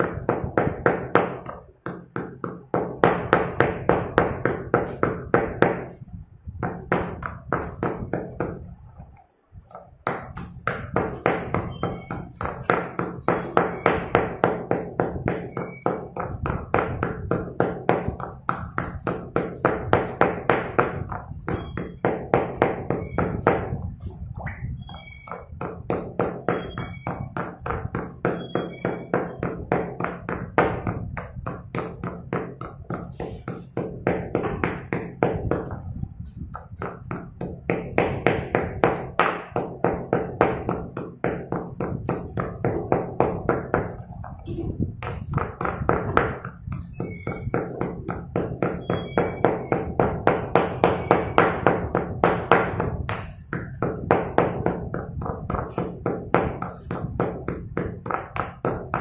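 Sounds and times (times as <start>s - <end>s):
pestle crushing in stone mortar: 0.0s - 6.0s, 6.6s - 9.1s, 9.7s - 59.0s.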